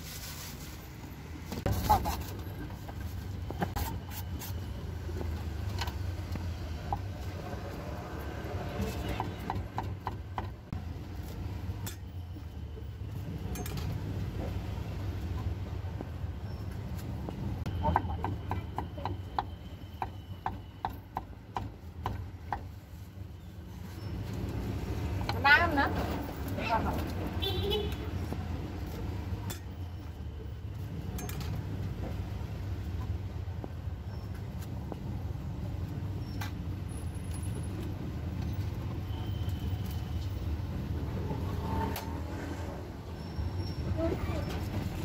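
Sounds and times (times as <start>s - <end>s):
low street rumble: 0.0s - 45.0s.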